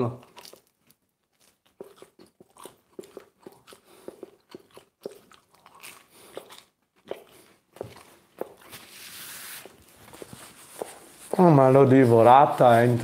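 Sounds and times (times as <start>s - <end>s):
person chewing crisp crust: 0.0s - 11.1s.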